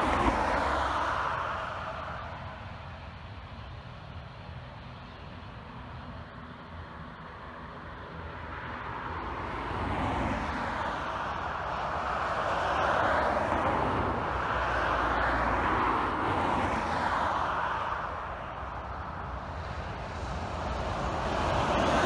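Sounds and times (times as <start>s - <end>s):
turboprop engines drone: 0.0s - 22.0s.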